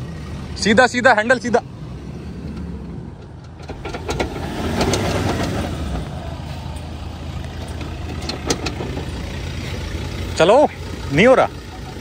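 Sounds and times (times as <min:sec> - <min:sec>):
diesel engine revving under load: 0:00.0 - 0:12.0
tyres crackling on dirt: 0:00.6 - 0:12.0.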